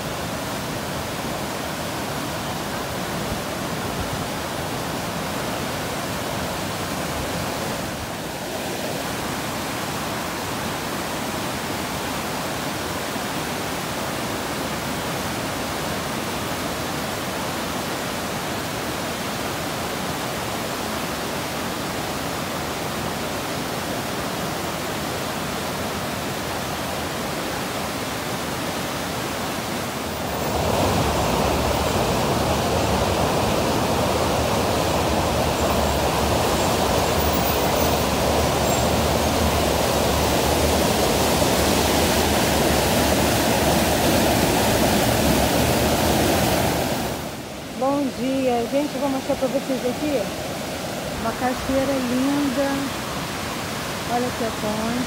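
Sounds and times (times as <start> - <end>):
river rapids rushing over boulders: 0.0 - 55.0.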